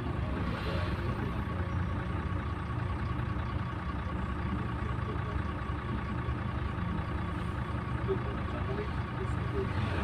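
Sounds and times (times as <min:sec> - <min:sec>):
bus engine running: 0:00.0 - 0:10.0.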